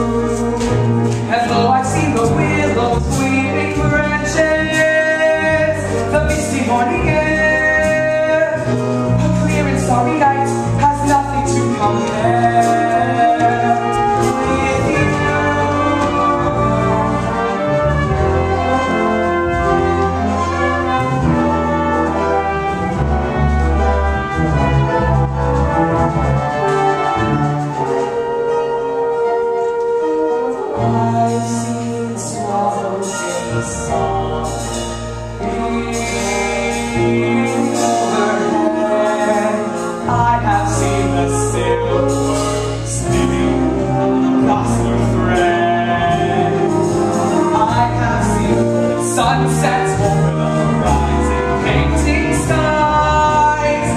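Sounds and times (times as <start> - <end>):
orchestral music with brass: 0.0 - 53.9.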